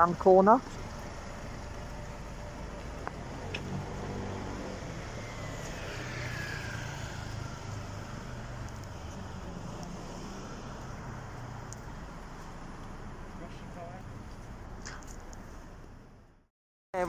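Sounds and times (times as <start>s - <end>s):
vehicle engine running: 0.0s - 16.3s
street traffic: 0.0s - 17.0s.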